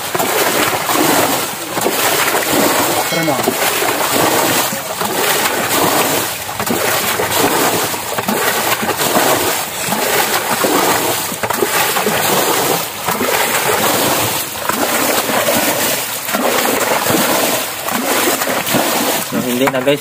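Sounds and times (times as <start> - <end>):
bucket scooping and splashing water: 0.0 - 20.0.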